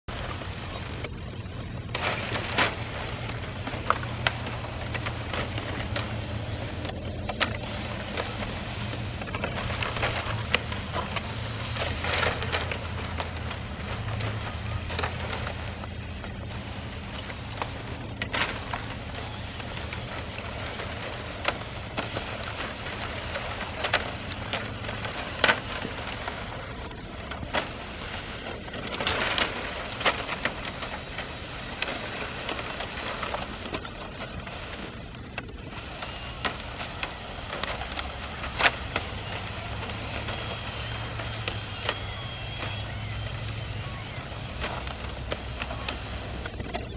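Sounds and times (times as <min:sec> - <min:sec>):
ice cracking and clinking: 0:01.8 - 0:46.9.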